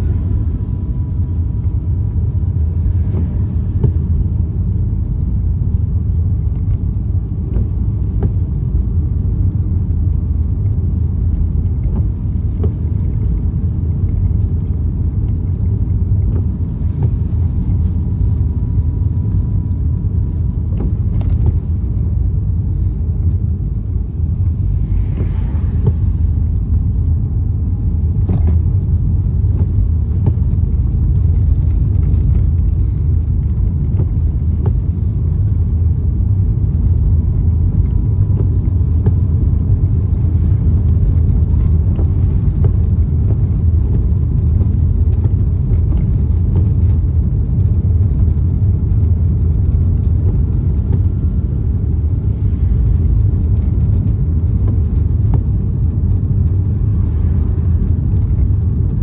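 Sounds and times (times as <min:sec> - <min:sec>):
car driving on wet road: 0:00.0 - 0:59.0.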